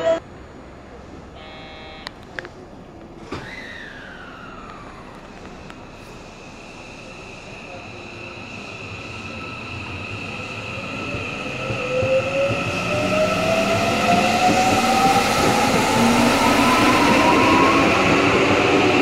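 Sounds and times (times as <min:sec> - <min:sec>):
train running noise: 0:02.1 - 0:19.0.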